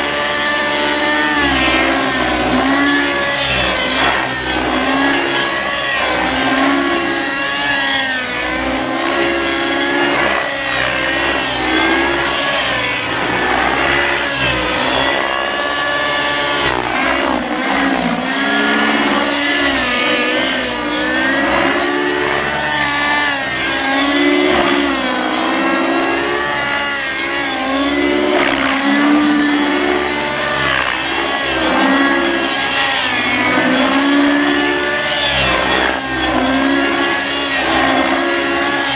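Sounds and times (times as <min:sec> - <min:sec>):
model helicopter engine: 0:00.0 - 0:38.9
spinning rotor blades: 0:00.0 - 0:38.9.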